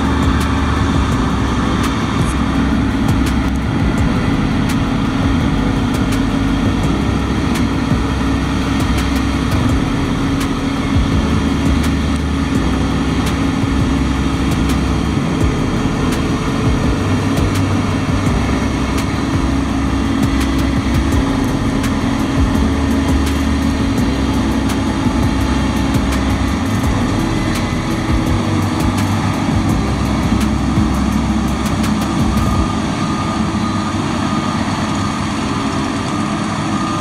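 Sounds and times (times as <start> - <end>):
combine harvester drone: 0.0 - 37.0.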